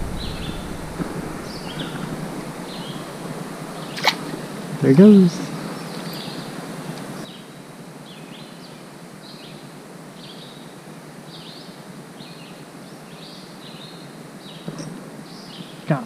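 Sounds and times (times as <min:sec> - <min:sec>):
bird chirping: 0:00.0 - 0:09.6, 0:11.3 - 0:16.0
steady outdoor hiss: 0:00.0 - 0:16.0.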